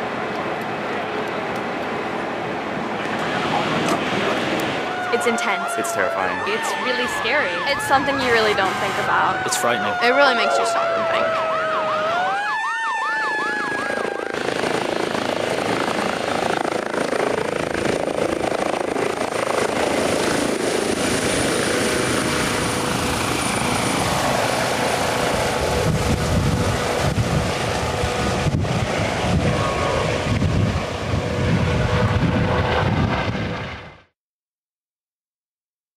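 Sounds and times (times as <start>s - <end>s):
helicopter engine and rotor: 0.0s - 34.1s
emergency siren wailing: 0.4s - 34.0s.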